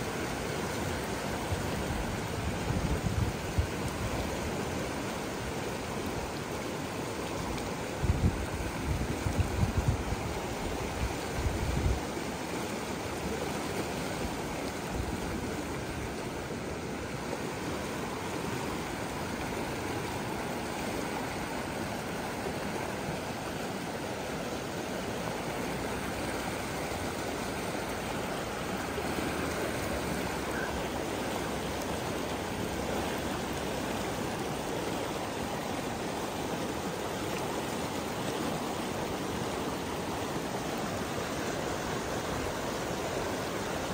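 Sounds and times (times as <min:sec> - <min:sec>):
river rushing over rocks: 0:00.0 - 0:43.9.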